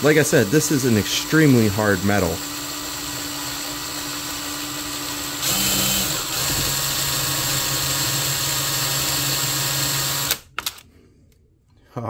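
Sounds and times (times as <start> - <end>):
cordless drill boring through steel: 0.0 - 10.4.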